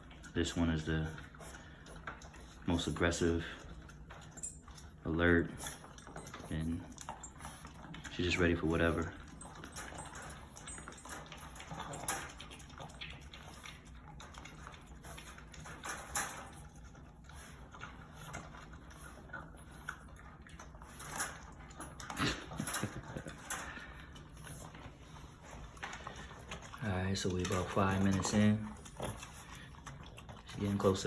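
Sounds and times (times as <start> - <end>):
puppy licking and chewing: 0.0 - 31.0.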